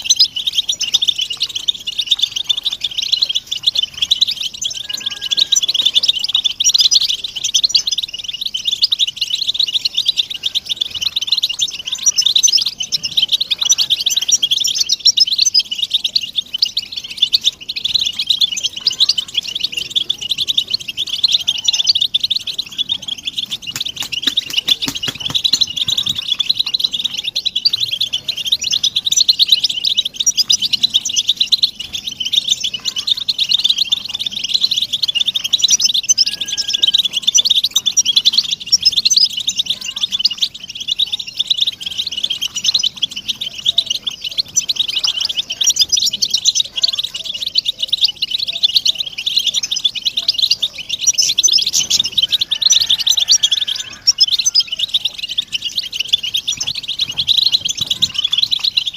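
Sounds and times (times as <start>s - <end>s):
flock of finches twittering: 0.0s - 58.9s.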